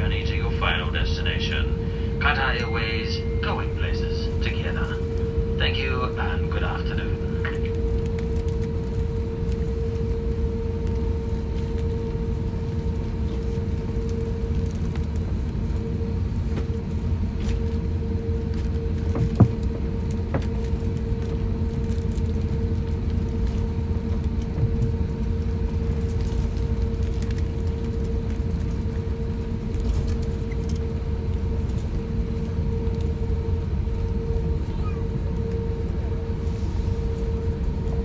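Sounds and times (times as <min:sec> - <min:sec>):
aircraft cabin rumble: 0:00.0 - 0:38.0.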